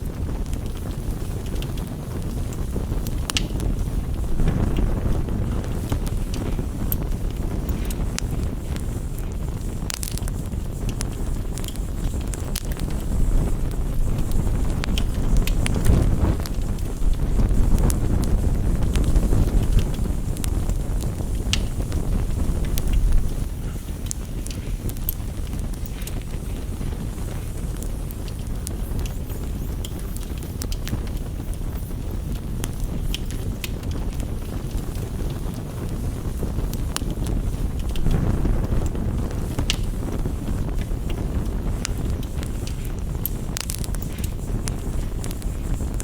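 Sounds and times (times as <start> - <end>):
rain rushing: 0.0 - 28.9, 31.8 - 46.0
steady low rumble: 0.0 - 29.7, 30.4 - 46.0
campfire crackling and popping: 0.0 - 46.0.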